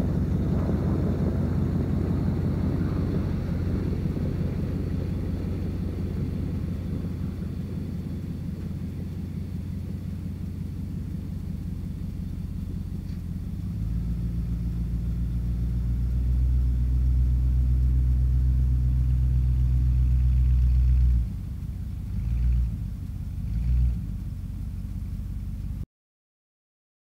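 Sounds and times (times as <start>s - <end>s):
truck engine droning: 0.0s - 25.8s.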